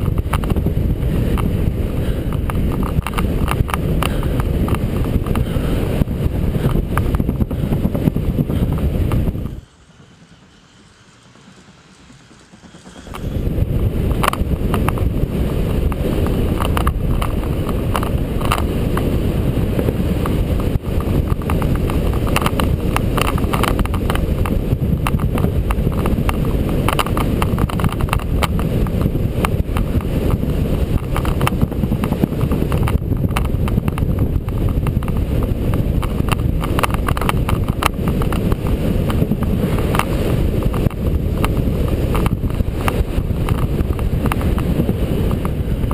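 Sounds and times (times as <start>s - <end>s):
bicycle clicks and rattles: 0.0s - 9.7s, 11.9s - 45.9s
wind buffeting microphone: 0.0s - 9.7s, 12.0s - 45.9s.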